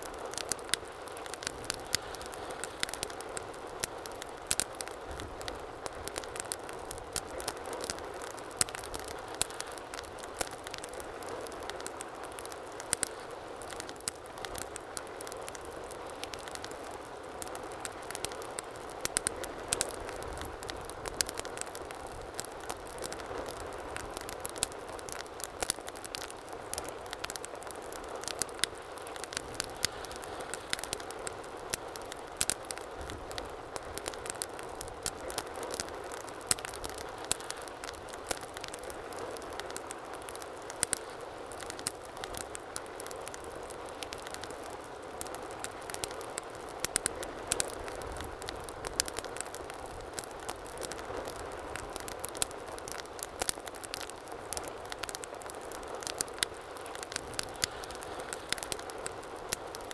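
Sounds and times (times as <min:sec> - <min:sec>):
soft hiss of flame: 0:00.0 - 0:24.3, 0:25.0 - 0:53.0, 0:53.9 - 0:59.9
wood fire crackling: 0:00.0 - 0:59.9.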